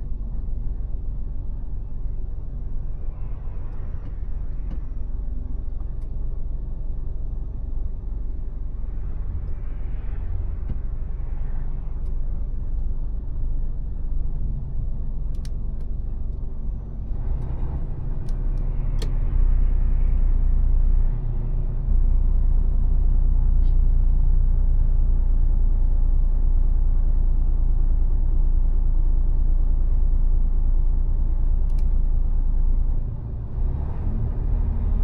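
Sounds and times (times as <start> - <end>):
truck diesel engine rumble: 0.0 - 35.0.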